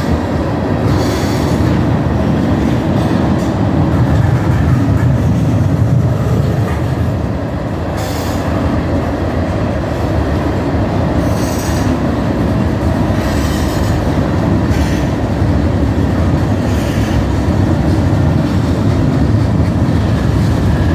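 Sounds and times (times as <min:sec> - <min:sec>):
freight train rumbling on rails: 0:00.0 - 0:20.9.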